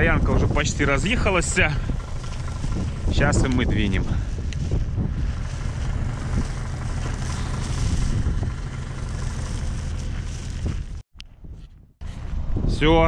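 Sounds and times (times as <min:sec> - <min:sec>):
diesel truck engines idling: 0:00.0 - 0:11.0
wind buffeting microphone: 0:00.0 - 0:13.0.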